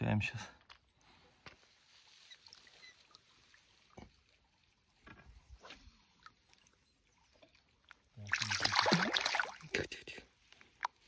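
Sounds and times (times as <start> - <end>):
faint water splashes: 0.6 - 11.0.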